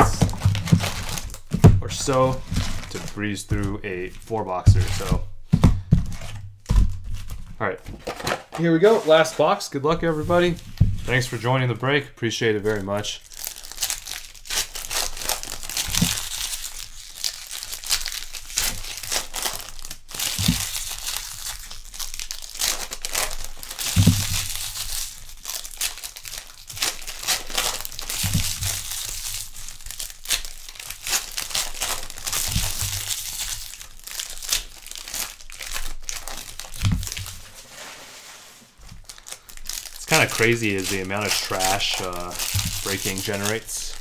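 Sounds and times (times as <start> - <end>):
wrappers tearing and crumpling: 0.0 - 5.2, 12.7 - 37.6, 38.8 - 44.0.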